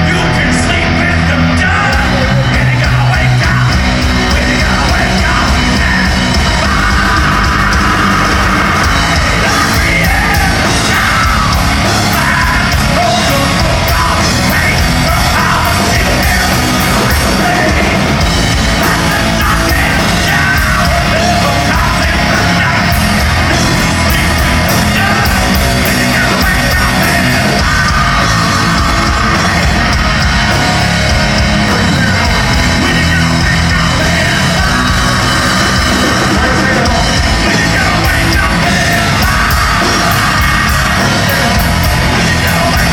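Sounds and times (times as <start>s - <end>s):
heavy rock band playing: 0.0s - 42.9s
yelled and sung vocals: 0.0s - 42.9s.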